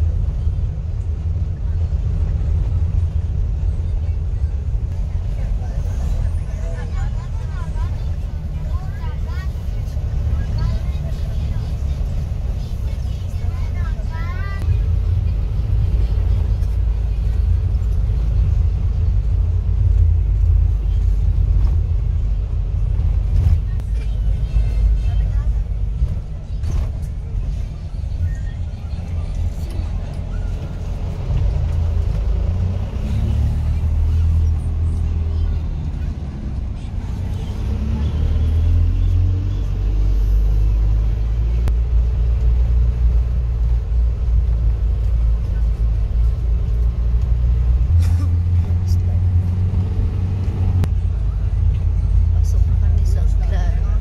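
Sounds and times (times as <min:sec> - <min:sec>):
tyre road noise: 0:00.0 - 0:54.0
vehicle engine rumble: 0:00.0 - 0:54.0.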